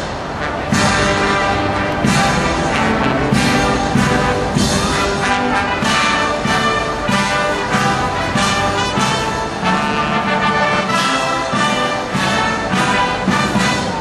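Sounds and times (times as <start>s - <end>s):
brass band playing a march: 0.0s - 14.0s
steady drum beat: 0.0s - 14.0s.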